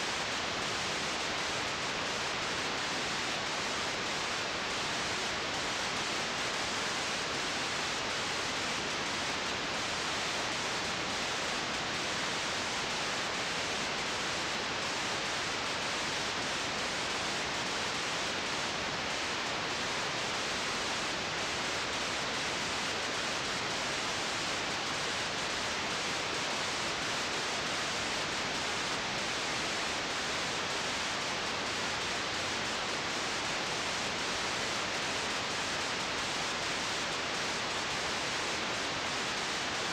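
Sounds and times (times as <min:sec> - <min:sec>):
tape hiss: 0:00.0 - 0:39.9.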